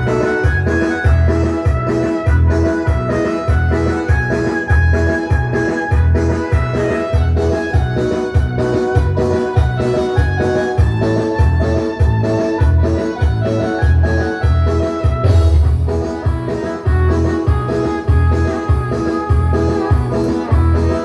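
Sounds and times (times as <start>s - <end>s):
electronic keyboard dance music: 0.0s - 21.0s.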